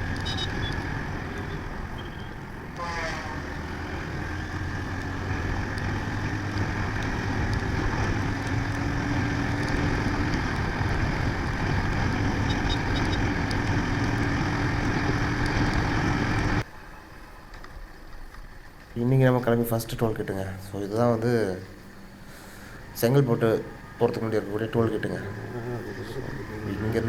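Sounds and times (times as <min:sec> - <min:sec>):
motorcycle engine hum: 0:00.0 - 0:27.0
wind and road noise: 0:00.0 - 0:27.0.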